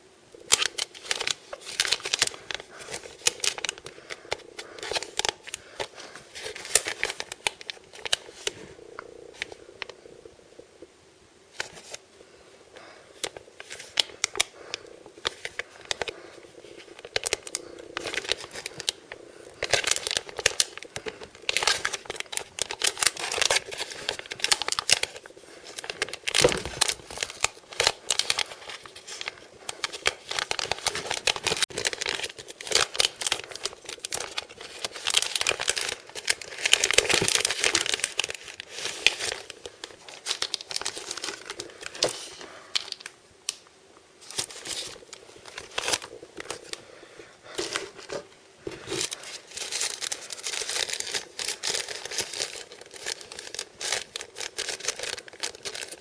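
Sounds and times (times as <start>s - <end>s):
plastic packaging crinkling: 0.3s - 10.0s, 13.2s - 43.6s, 44.2s - 56.0s.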